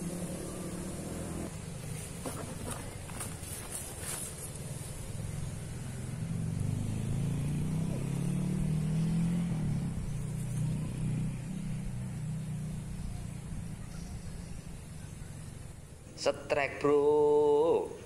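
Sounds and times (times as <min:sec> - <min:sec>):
vehicle engine passing: 0:00.0 - 0:03.0, 0:04.3 - 0:16.0.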